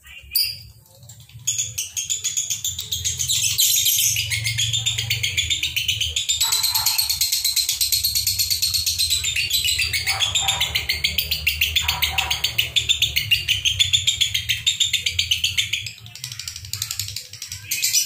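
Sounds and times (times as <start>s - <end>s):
lovebirds chattering: 0.0s - 18.0s.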